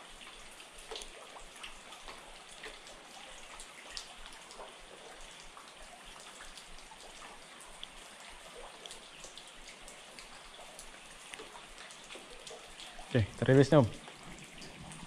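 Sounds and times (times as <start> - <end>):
steady rain hiss: 0.0 - 15.0
water drips: 0.0 - 15.0.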